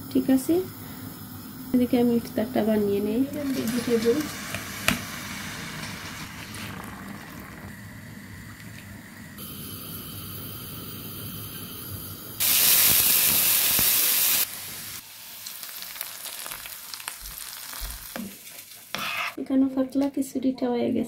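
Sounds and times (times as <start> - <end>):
faint kitchen hum: 0.0 - 21.0
onions sizzling in a pan: 0.1 - 7.3, 9.4 - 19.4.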